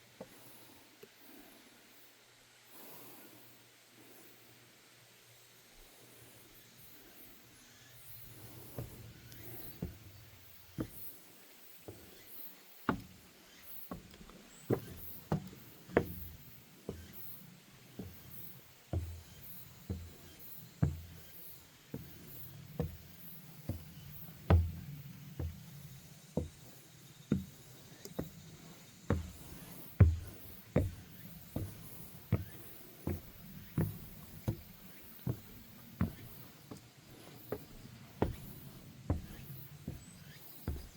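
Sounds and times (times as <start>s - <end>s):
footsteps on wooden boardwalk: 8.0s - 40.9s.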